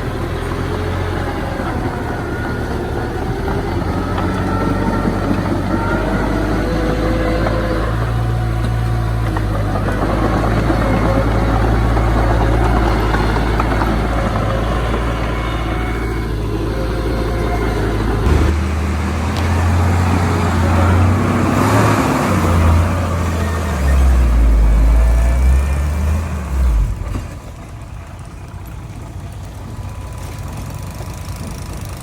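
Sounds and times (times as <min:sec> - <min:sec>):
heavy diesel machinery engines: 0:00.0 - 0:32.0.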